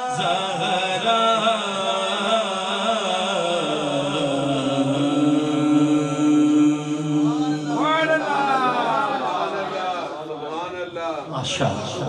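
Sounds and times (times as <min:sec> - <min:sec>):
man chanting unaccompanied: 0:00.0 - 0:09.8.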